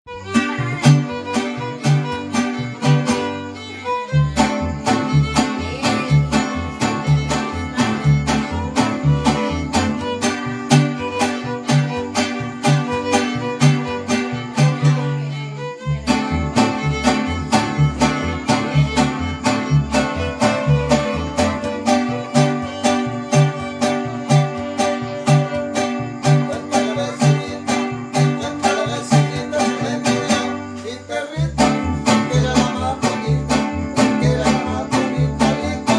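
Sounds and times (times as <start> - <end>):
fiddle: 0.0 - 35.9
plucked bass: 0.1 - 35.9
strummed guitars: 0.1 - 35.9.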